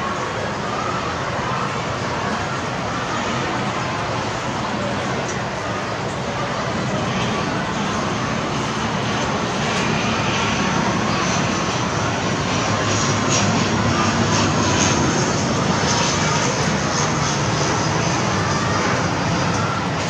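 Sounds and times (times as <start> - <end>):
jet engines running steadily: 0.0 - 20.0.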